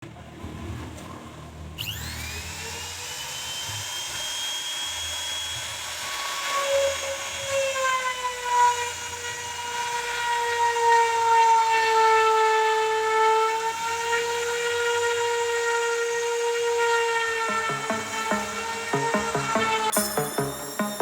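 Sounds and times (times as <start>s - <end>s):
router spindle motor whine: 1.8s - 21.0s.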